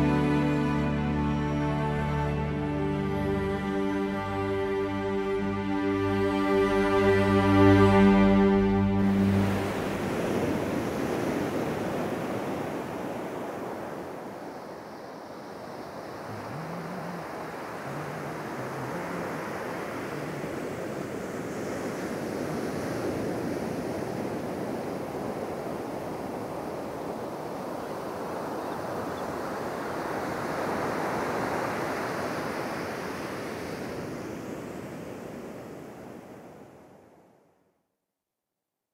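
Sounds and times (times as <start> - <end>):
ocean waves washing in: 0.0 - 37.2.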